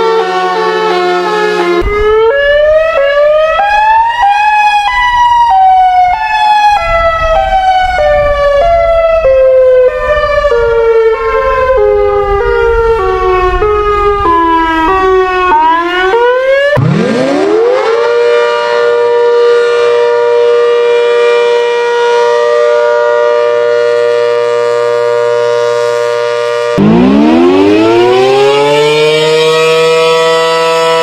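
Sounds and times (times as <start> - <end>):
civil defence sirens wailing: 0.0 - 31.0.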